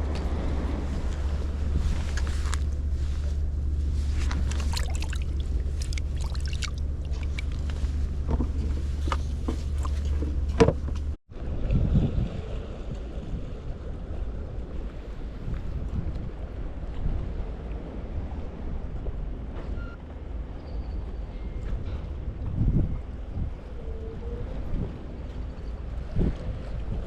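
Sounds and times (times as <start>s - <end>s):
wind buffeting microphone: 0.0s - 19.5s, 21.0s - 27.0s.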